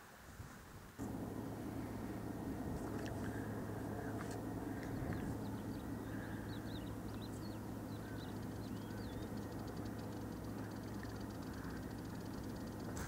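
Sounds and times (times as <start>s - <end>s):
fast high ticking trill: 1.0s - 13.0s
low outdoor rumble: 1.0s - 13.0s
small birds chirping: 1.0s - 13.0s.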